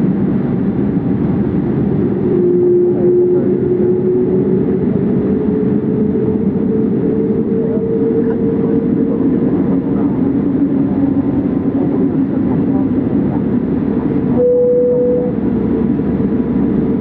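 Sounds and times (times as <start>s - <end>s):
jet engines rumble and hum: 0.0s - 17.0s.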